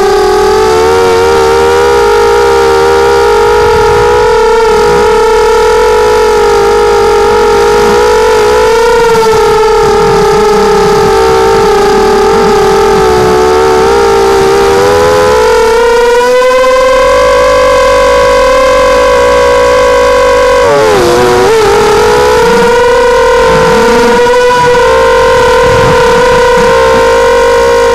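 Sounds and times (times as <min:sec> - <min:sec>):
drone motors whining: 0:00.0 - 0:27.9.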